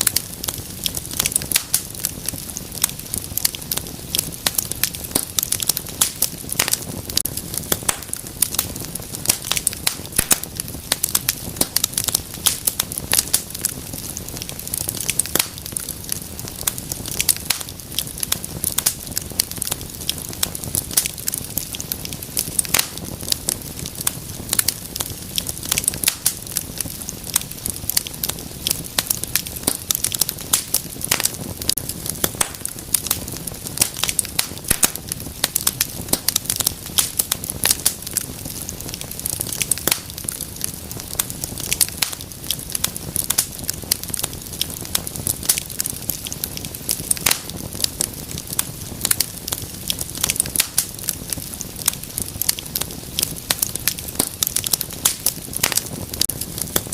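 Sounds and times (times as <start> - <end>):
low roar of burning: 0.0 - 56.9
wood fire crackling and popping: 0.0 - 56.9.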